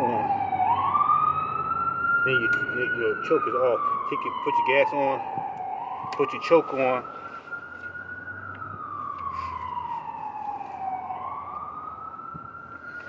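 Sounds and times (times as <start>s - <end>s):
emergency vehicle siren wailing: 0.0s - 13.0s.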